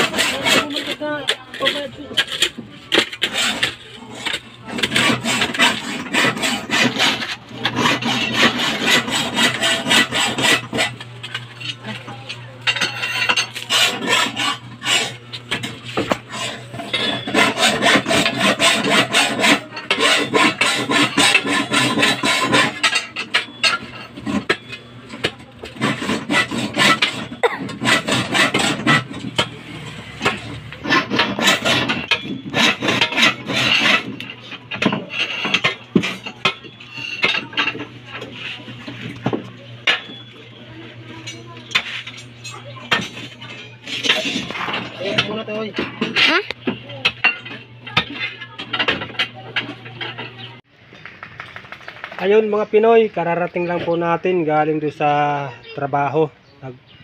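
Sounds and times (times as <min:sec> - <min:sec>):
digging bar scraping rocks: 0:00.0 - 0:40.2, 0:41.2 - 0:50.3.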